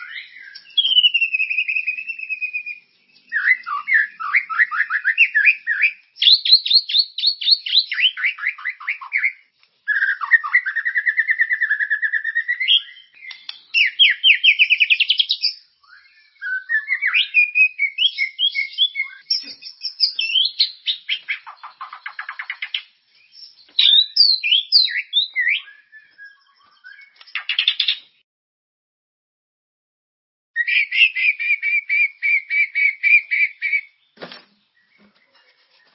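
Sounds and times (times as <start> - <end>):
songbird trills and whistles: 0.0 - 28.2, 30.6 - 35.9.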